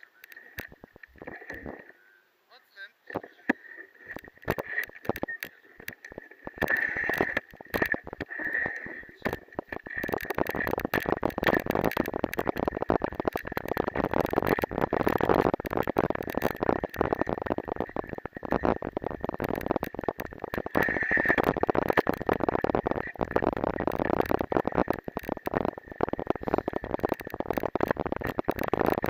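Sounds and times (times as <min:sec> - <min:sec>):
bicycle rattling over rough track: 0:04.1 - 0:29.0
wind noise on microphone: 0:04.1 - 0:29.0.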